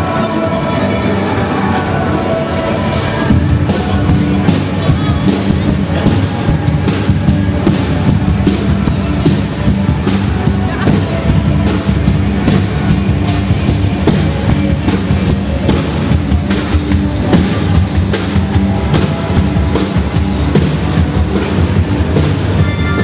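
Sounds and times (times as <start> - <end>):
loud music with drum beat: 0.0 - 23.0.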